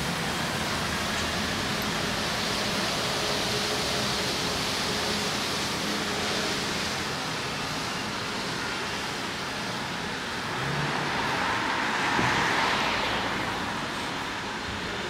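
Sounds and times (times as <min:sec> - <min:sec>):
car tyres hissing on wet road: 0:00.0 - 0:15.0.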